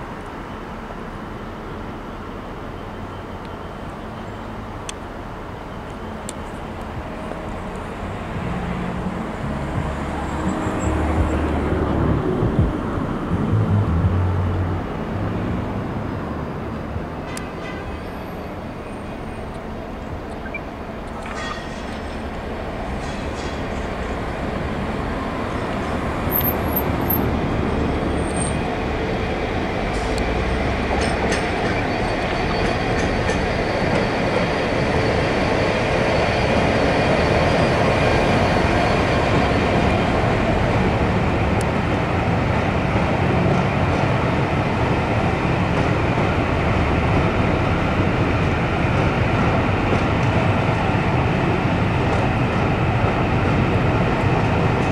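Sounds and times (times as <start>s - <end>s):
coaches rolling on rails: 0.0s - 54.9s
diesel locomotive passing: 0.0s - 54.9s.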